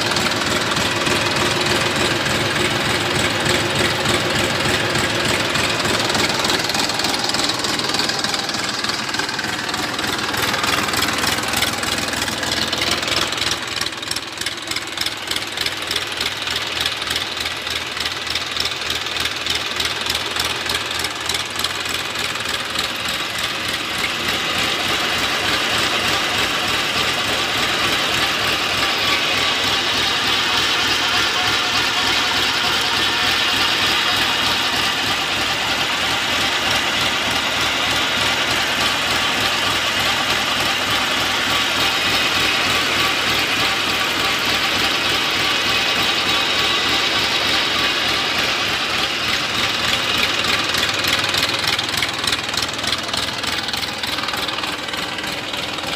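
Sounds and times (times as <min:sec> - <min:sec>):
tractor diesel engine running slowly: 0:00.0 - 0:55.9
water pump drive rattling and whining: 0:00.0 - 0:55.9.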